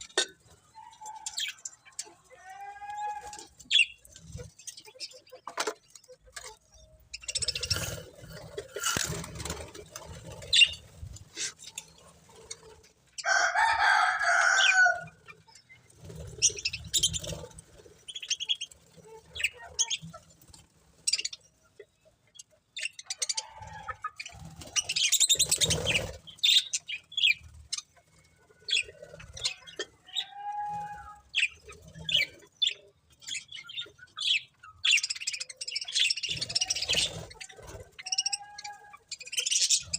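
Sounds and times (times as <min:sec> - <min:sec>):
budgerigars chirping and chattering: 0:00.0 - 0:02.4, 0:03.0 - 0:39.9.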